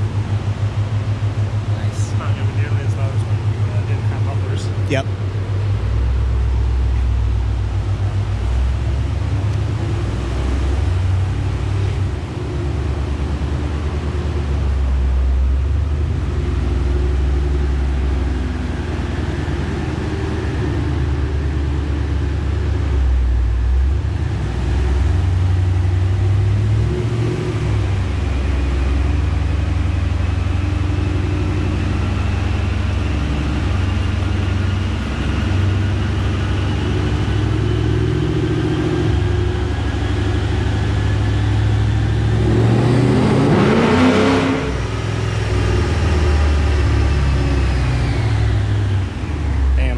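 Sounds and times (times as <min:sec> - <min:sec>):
car engine running on dyno: 0:00.0 - 0:49.9.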